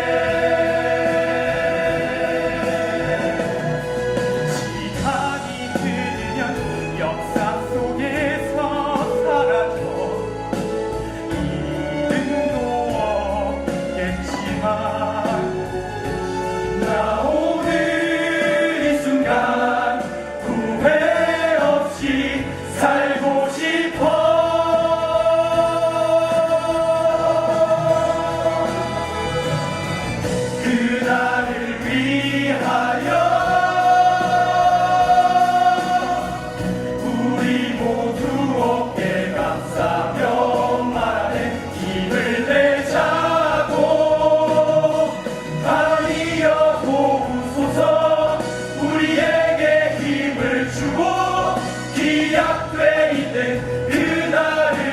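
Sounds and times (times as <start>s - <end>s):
choir singing: 0.0s - 54.9s
instrumental accompaniment: 0.0s - 54.9s.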